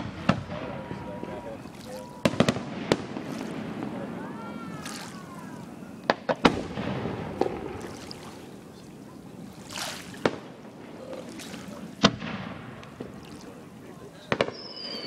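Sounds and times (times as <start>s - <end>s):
fireworks bangs: 0.0s - 9.6s, 10.2s - 15.0s.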